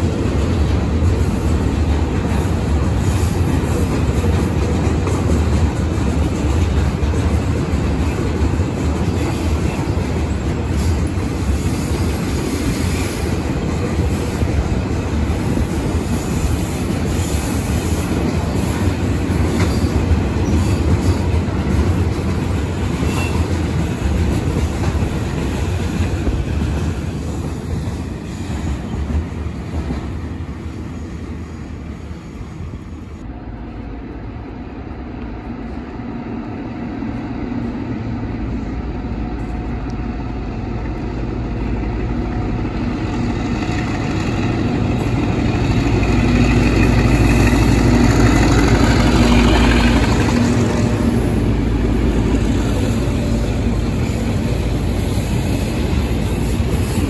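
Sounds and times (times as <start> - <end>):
train rumbling past: 0.0 - 57.0.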